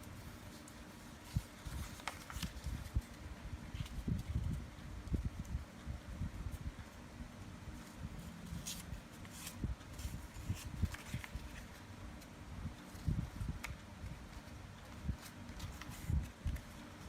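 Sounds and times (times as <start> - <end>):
paper crackling: 0.2 - 5.5, 7.7 - 17.0.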